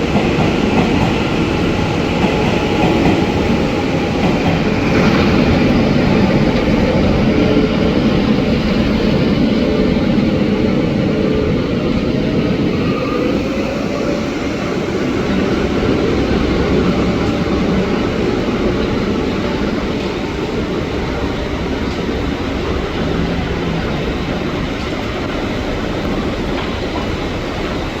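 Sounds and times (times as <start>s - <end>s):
train running on track: 0.0s - 28.0s.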